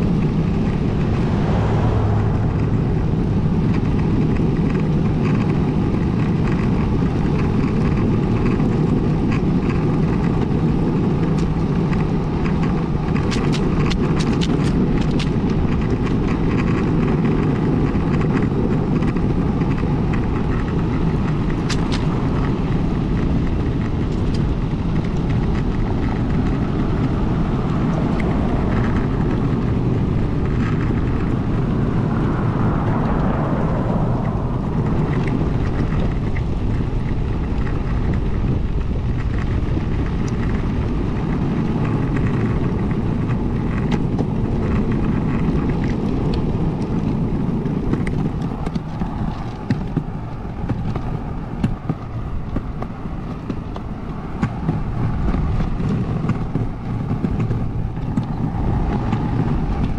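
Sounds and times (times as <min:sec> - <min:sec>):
longboard wheels rolling on asphalt: 0:00.0 - 0:59.9.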